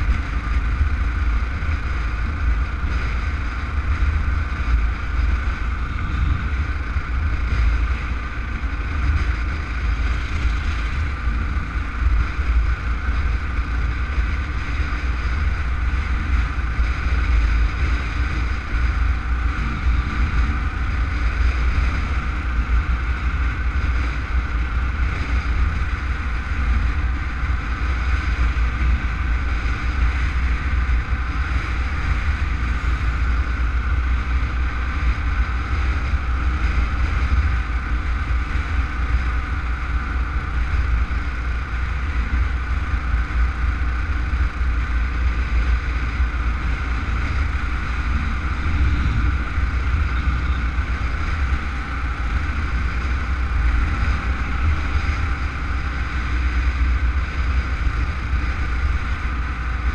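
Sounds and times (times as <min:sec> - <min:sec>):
engine running: 0:00.0 - 0:59.9
wind rushing on microphone: 0:00.0 - 0:59.9.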